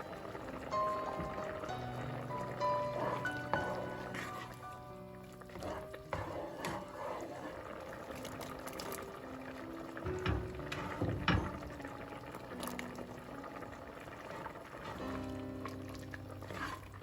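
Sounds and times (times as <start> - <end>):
background music with held notes: 0.0 - 17.0
liquid stirred in a pot: 0.0 - 17.0.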